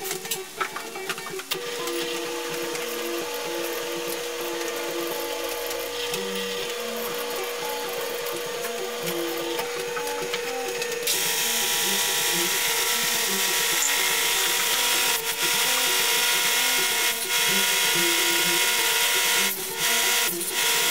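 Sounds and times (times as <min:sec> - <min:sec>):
drill press whining: 0:01.1 - 0:20.9.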